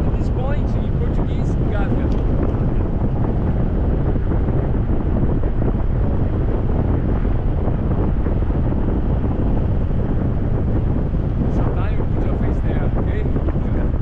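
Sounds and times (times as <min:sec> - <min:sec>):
wind roar on microphone: 0:00.0 - 0:14.0.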